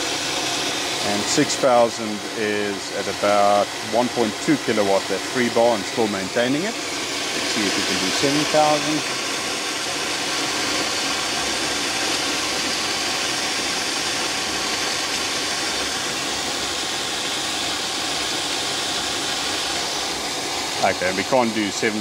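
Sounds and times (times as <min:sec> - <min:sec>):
pump motor hum: 0:00.0 - 0:22.0
water rushing through pipes: 0:00.0 - 0:22.0.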